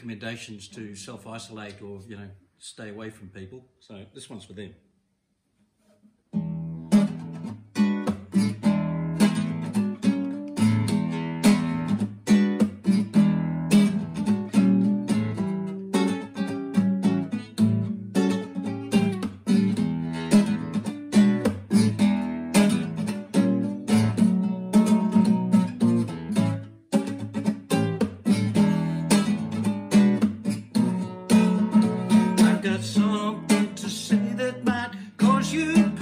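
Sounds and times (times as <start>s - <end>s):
classical guitar strummed chords: 6.3s - 36.0s.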